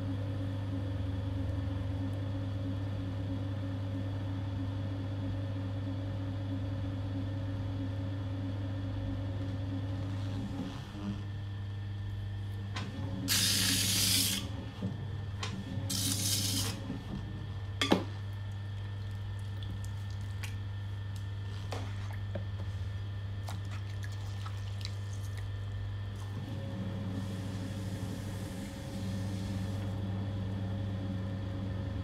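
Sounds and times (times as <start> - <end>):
potter's wheel humming: 0.0 - 32.0.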